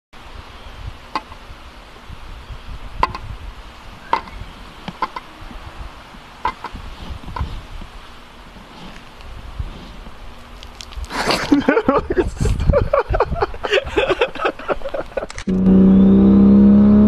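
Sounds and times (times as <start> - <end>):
wind rumbling on microphone: 0.2 - 17.0.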